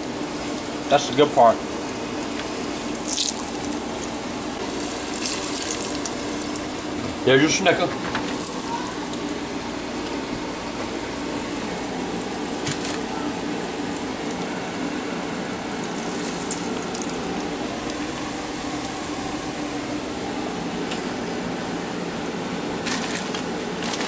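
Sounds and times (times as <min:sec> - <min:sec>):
deep-frying sizzle and bubbling: 0:00.0 - 0:24.0.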